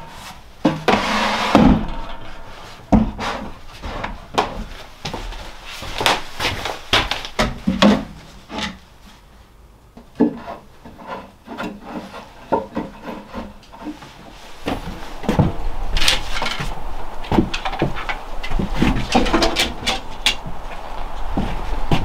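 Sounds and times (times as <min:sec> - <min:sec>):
rubbing and scraping wood: 0:00.0 - 0:09.3, 0:10.1 - 0:22.0.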